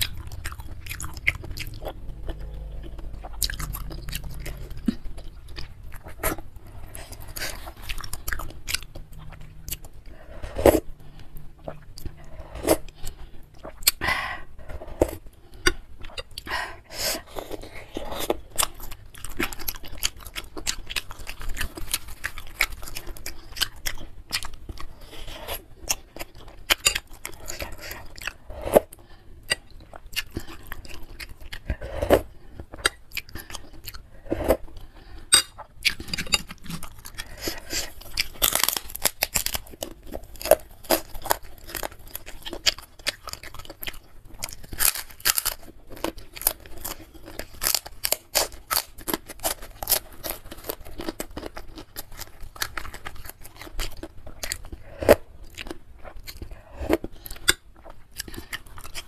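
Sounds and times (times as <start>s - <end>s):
wet chewing and crunching: 0.0s - 59.0s.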